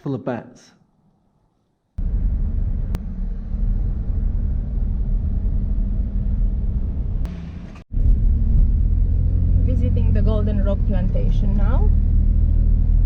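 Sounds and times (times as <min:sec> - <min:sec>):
car engine and road noise: 0:02.0 - 0:13.0.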